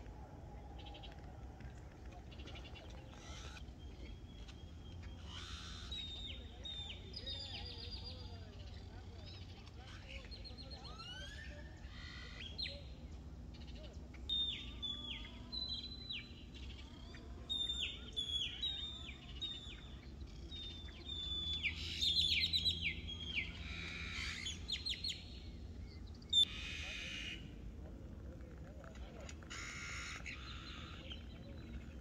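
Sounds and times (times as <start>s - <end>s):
low background rumble: 0.0s - 26.6s
birds calling: 0.0s - 32.0s.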